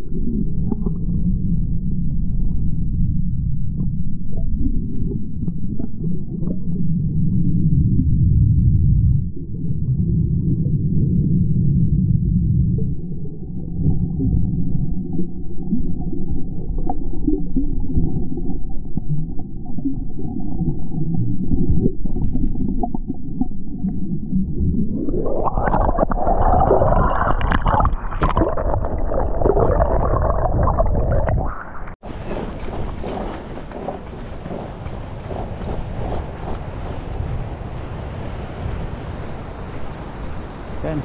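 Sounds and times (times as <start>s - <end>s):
underwater water surge rumble: 0.0s - 41.0s.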